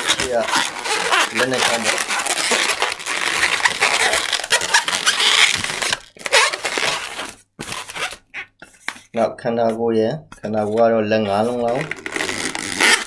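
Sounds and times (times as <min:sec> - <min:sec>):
balloon squeaking and rubbing: 0:00.0 - 0:09.8, 0:10.4 - 0:13.0.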